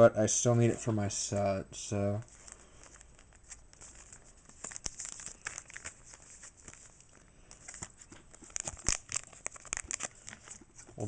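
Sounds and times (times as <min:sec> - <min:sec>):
cards and wrappers crinkling: 0:01.4 - 0:11.0.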